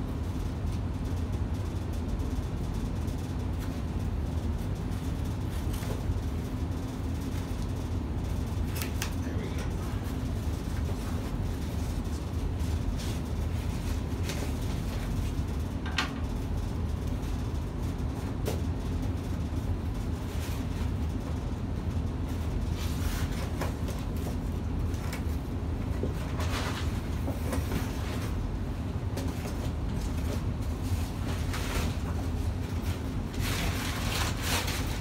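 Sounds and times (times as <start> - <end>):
deep room hum: 0.0 - 35.0.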